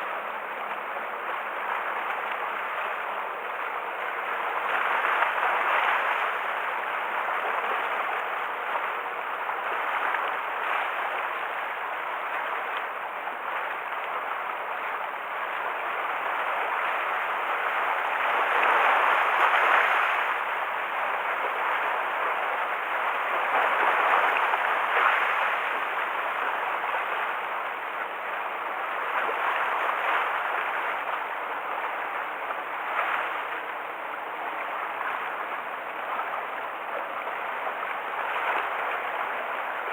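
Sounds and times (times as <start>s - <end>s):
rough sea waves splashing: 0.0s - 39.9s.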